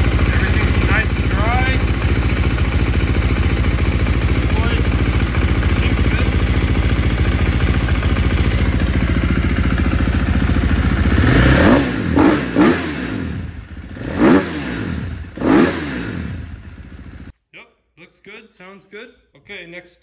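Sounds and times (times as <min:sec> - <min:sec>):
dirt bike engine idling and revving: 0:00.0 - 0:17.3.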